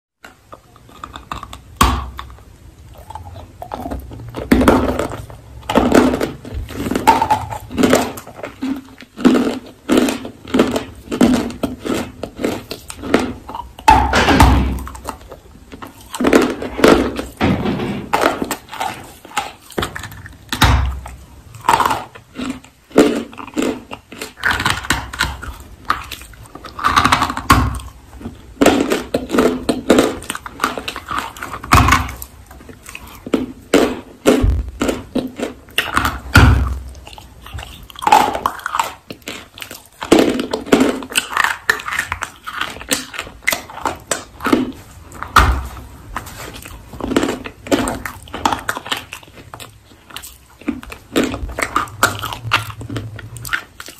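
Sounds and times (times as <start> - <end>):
soft chewing: 0.2 - 14.1, 18.2 - 53.9.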